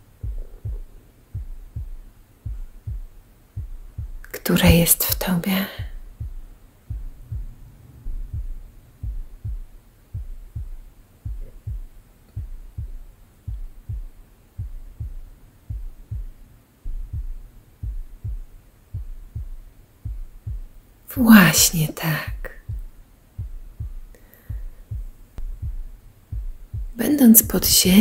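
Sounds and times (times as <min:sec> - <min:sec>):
slow heartbeat thumps: 0:00.0 - 0:28.0.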